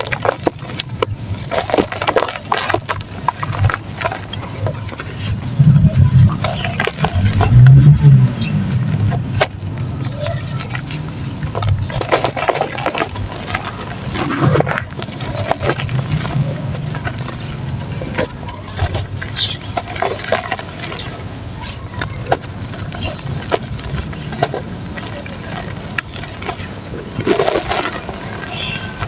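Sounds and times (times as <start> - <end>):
mud crumbling in water: 0.0 - 29.0
steady low rumble: 0.0 - 29.0.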